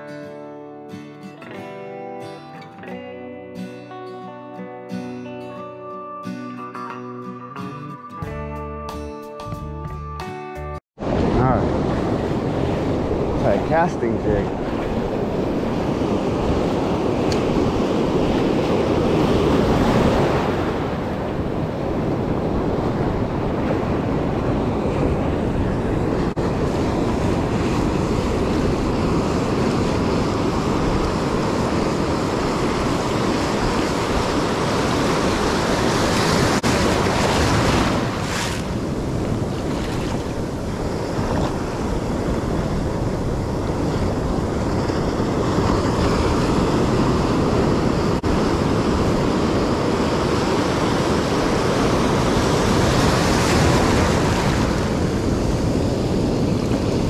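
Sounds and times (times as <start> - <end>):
ocean surf breaking: 11.0 - 57.0
wind buffeting microphone: 11.0 - 57.0.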